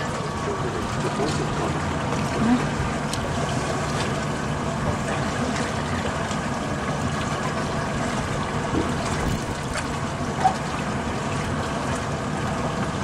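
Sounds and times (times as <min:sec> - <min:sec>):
choppy water around boat: 0:00.0 - 0:13.0.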